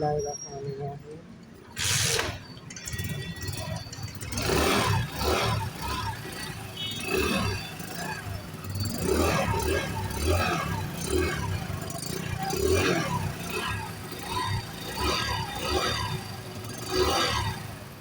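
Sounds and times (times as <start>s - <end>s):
motorcycle engine starting and revving: 1.4s - 18.0s.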